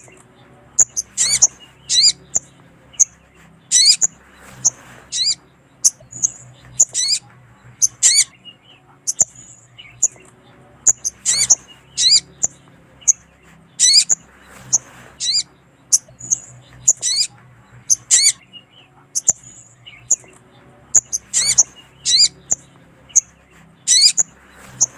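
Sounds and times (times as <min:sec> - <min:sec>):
bird calling with sharp chips: 0:00.0 - 0:07.2, 0:07.8 - 0:24.9.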